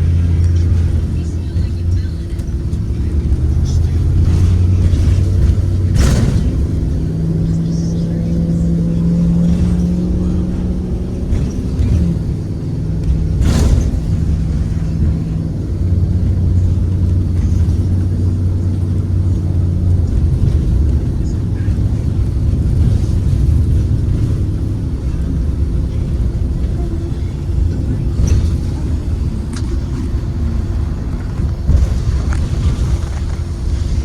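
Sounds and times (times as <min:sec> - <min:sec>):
bus engine droning: 0:00.0 - 0:34.0.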